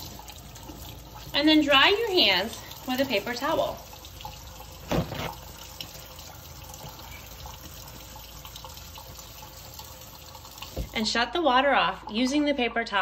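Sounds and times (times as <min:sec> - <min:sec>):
faucet running into metal sink: 0:00.0 - 0:11.2.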